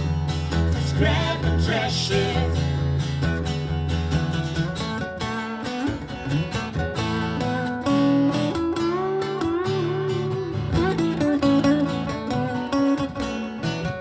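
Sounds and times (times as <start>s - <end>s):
baritone guitar with effects: 0.0s - 14.0s.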